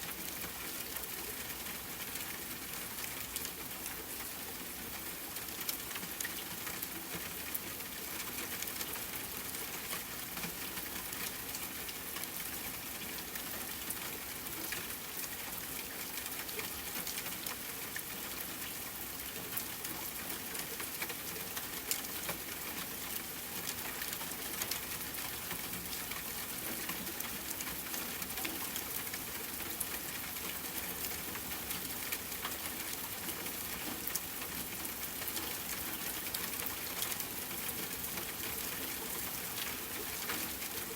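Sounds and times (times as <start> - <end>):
rain falling on a tent: 0.0 - 40.9.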